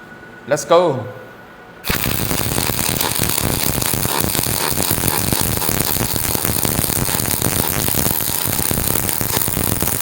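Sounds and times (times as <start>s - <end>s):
welding arc crackling: 1.8s - 10.0s.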